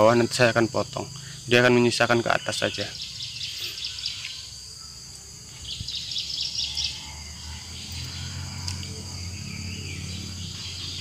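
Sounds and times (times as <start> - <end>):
insects calling in high tones: 0.0 - 11.0
rapid pulsing insect chirp: 0.0 - 11.0.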